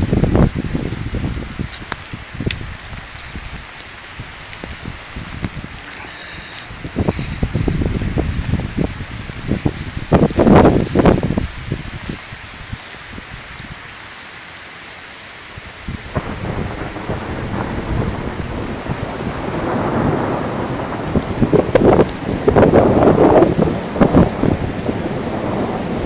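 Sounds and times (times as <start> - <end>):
thunder rumble: 0.0 - 12.1, 15.9 - 26.0
steady rain hiss: 0.0 - 26.0.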